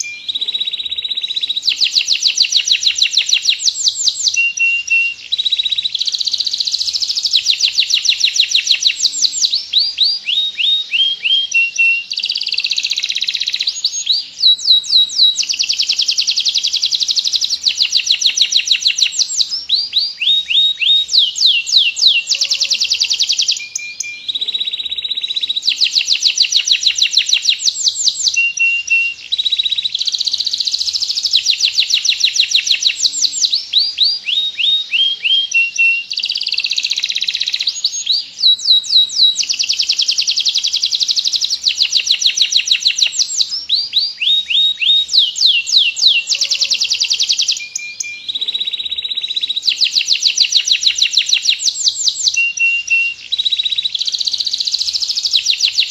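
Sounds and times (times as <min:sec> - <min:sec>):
canary singing in fast trills: 0:00.0 - 0:55.9.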